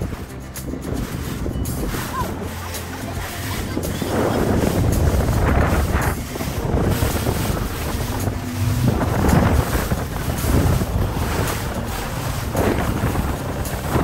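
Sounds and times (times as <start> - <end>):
water rushing past hull: 0.0 - 14.0
wind buffeting microphone: 0.0 - 14.0.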